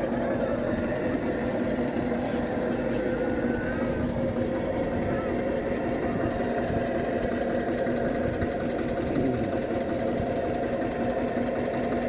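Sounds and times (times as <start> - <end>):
engine knocking steadily: 0.0 - 12.0.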